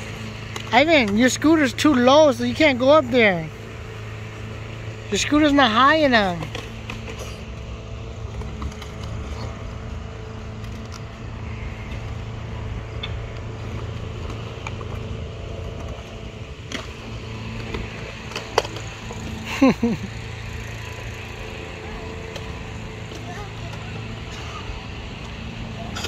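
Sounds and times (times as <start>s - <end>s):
scooter wheels rolling on concrete: 0.0s - 26.0s.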